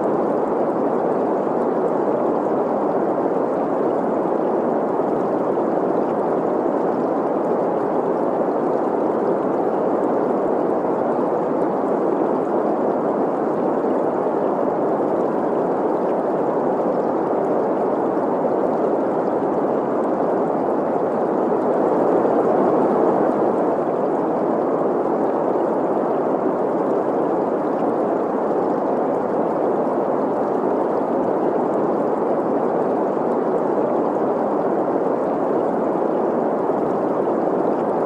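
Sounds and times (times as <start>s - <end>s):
stream running: 0.0s - 38.0s.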